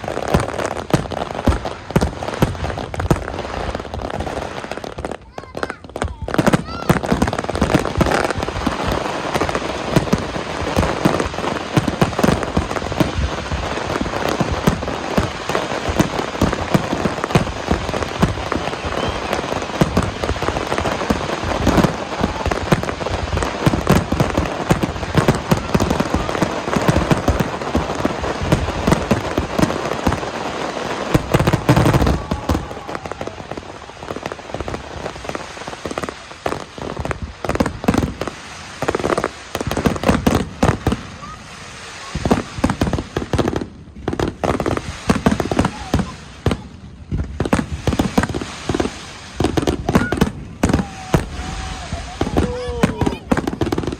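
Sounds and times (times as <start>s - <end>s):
fireworks crackling: 0.0s - 53.9s.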